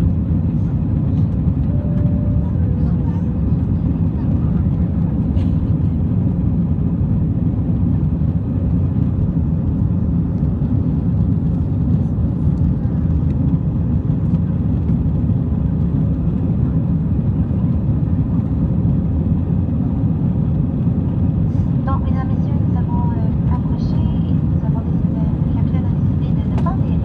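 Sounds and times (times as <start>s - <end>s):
airliner cabin drone: 0.0s - 27.0s.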